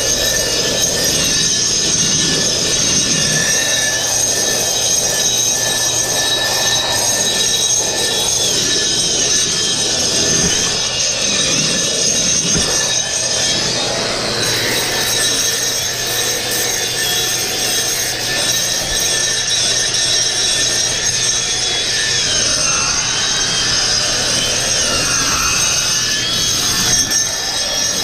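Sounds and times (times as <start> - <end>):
angle grinder grinding concrete: 0.0 - 28.0.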